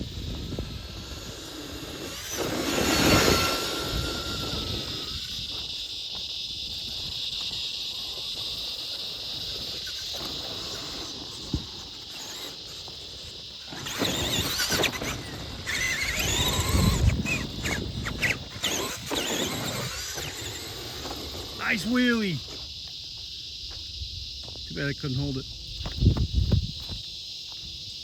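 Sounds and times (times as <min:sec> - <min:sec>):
electric motor and gears whining: 0:00.0 - 0:28.0.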